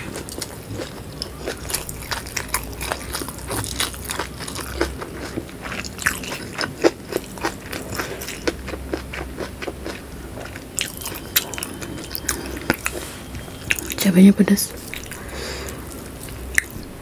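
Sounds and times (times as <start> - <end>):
crisp chewing crunches: 0.0 - 14.1, 14.7 - 17.0.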